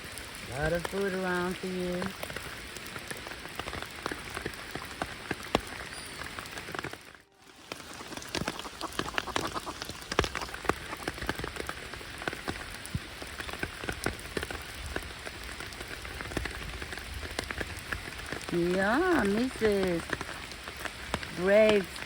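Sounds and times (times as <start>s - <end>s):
raindrops clicking: 0.0s - 22.0s
steady rain: 0.0s - 22.0s.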